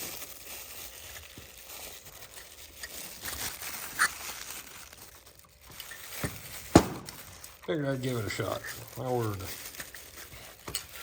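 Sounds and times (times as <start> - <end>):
packaging crinkle: 0.0 - 11.0
packaging rustling: 0.0 - 11.0.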